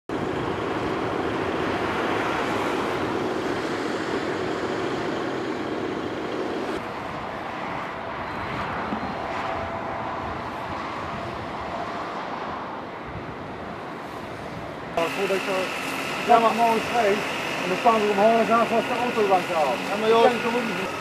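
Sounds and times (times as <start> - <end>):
motorway traffic noise: 0.1 - 21.0.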